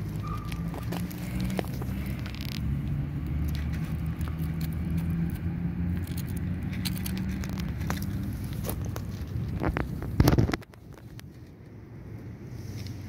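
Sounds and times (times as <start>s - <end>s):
gravel clicks: 0.0s - 11.8s
low engine hum: 0.0s - 13.0s.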